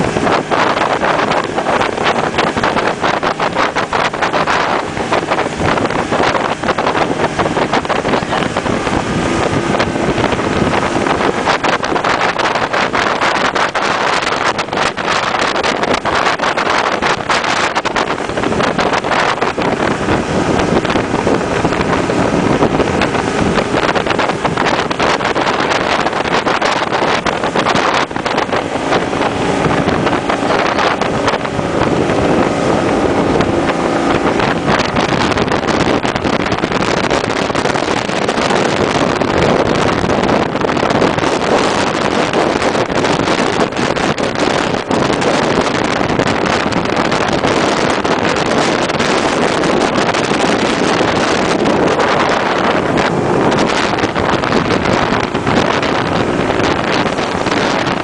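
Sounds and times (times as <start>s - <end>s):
motorboat engine drone: 0.0s - 58.0s
rushing water and spray: 0.0s - 58.0s
wind buffeting microphone: 0.0s - 58.0s.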